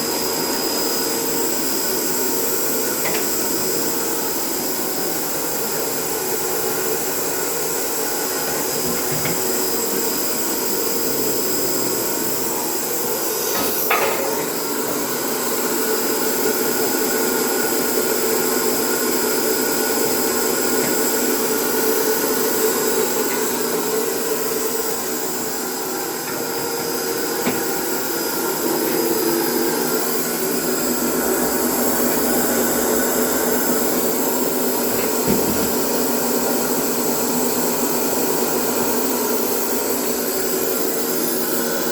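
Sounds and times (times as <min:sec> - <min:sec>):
sanding machine whining: 0:00.0 - 0:41.8.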